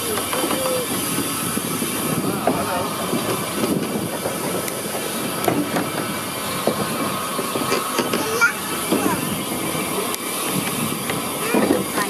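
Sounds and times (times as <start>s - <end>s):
rolling rail rattle: 0.0s - 12.0s
steam hiss: 0.0s - 12.0s.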